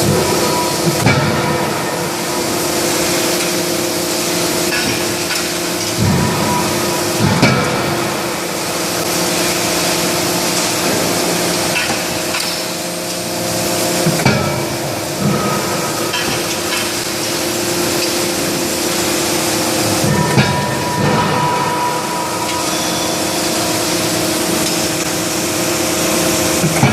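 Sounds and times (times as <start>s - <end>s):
forge shop noise: 0.0s - 26.9s
heavy forging hammer blows: 0.0s - 26.9s
hydraulic power unit hum: 0.0s - 26.9s.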